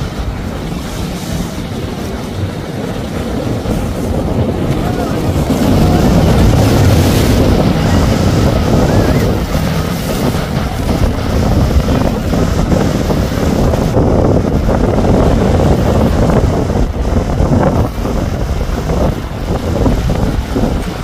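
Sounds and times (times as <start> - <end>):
rushing water and spray: 0.0 - 21.0
speedboat engines droning: 0.0 - 21.0
wind buffeting microphone: 0.0 - 21.0.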